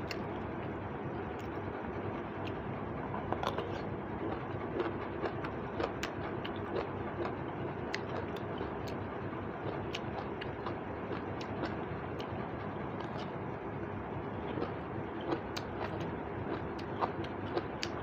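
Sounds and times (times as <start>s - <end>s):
chewing clicks and smacks: 0.0s - 0.3s, 1.3s - 2.6s, 3.3s - 13.3s, 14.4s - 18.0s.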